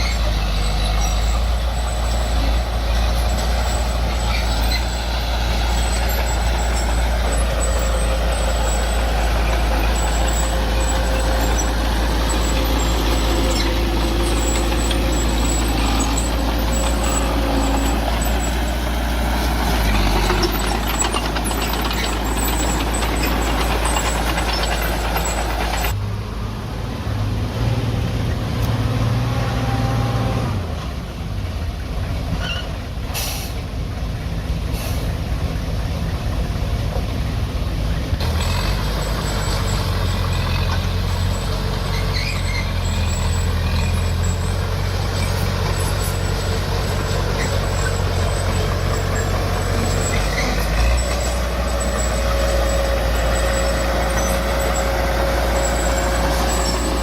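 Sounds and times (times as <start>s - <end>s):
heavy diesel machinery rumbling: 0.0s - 57.0s.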